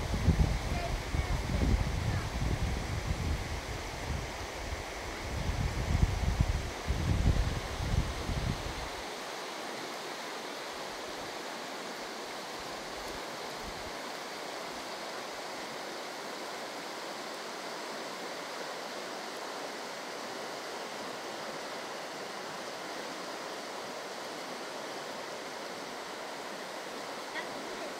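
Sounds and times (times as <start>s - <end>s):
river rushing over stones: 0.0s - 27.9s.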